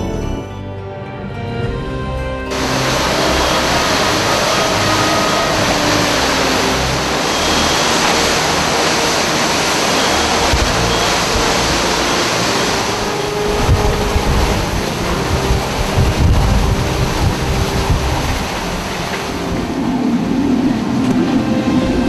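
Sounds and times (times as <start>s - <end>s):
driving rain: 2.5s - 22.0s
hurricane-force wind: 2.5s - 22.0s.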